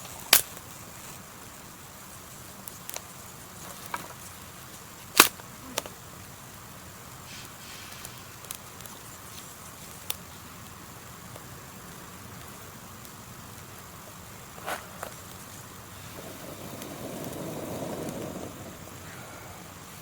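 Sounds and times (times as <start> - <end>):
burning wood popping: 0.0 - 20.0
campfire crackling: 0.0 - 20.0.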